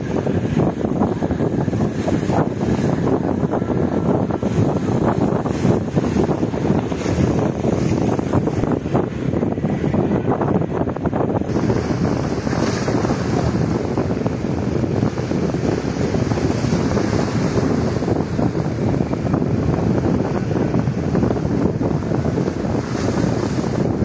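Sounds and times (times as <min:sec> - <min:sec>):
waves splashing against concrete: 0:00.0 - 0:24.0
wind buffeting microphone: 0:00.0 - 0:24.0.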